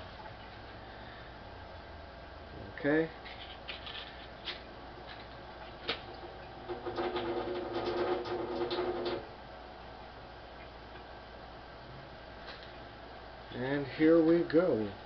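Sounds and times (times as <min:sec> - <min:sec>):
hum and crackling: 0:00.0 - 0:15.0.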